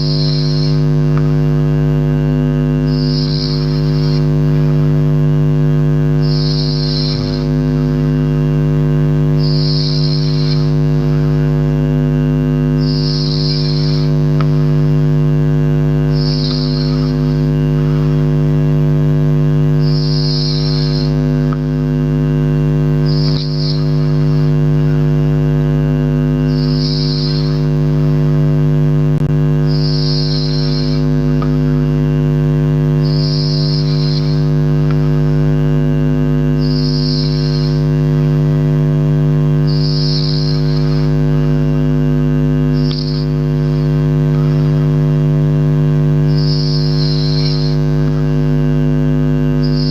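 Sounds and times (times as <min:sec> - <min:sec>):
loud steady low hum: 0:00.0 - 0:49.9.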